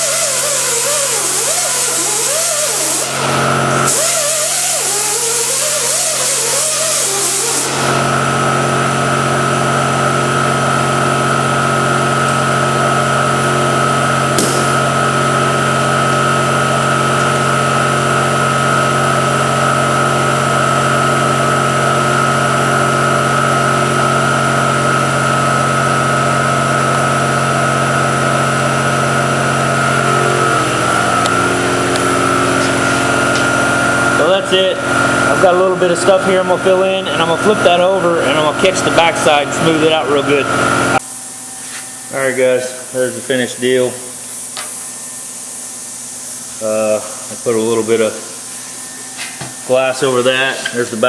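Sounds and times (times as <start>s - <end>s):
motor humming with whine: 0.0s - 51.0s.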